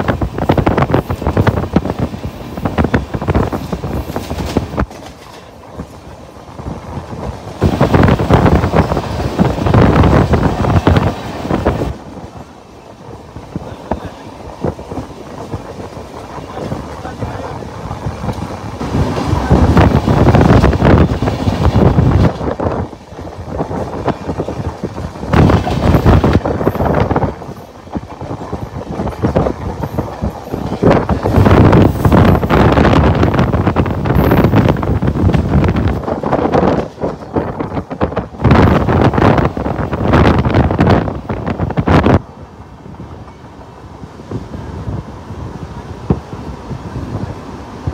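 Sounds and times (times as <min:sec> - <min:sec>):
train wheels rattling over rails: 0:00.0 - 0:47.9
wind buffeting microphone: 0:00.0 - 0:47.9.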